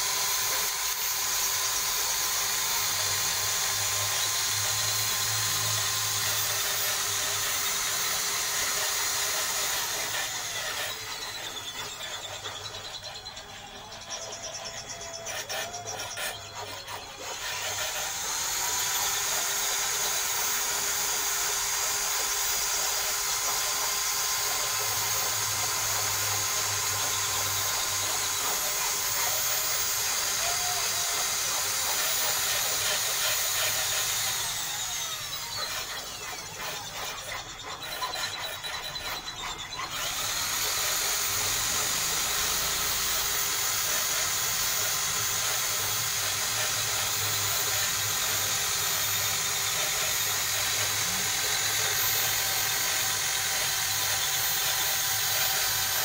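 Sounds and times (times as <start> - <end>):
electric drill spinning: 0.0 - 56.0.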